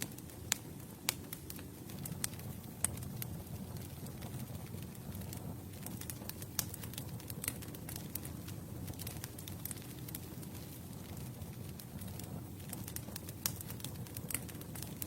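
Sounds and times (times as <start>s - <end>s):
campfire crackles and pops: 0.0s - 15.0s
campfire flames rumbling: 0.0s - 15.0s.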